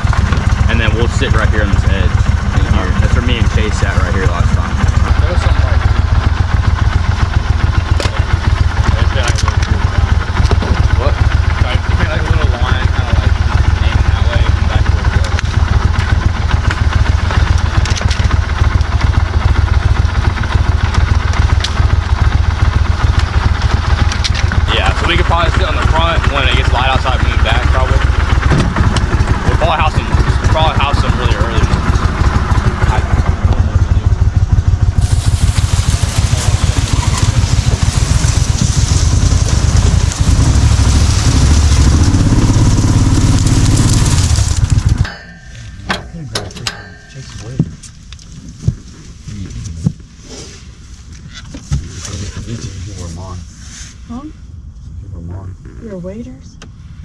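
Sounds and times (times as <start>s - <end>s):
boat motor running: 0.0s - 48.9s.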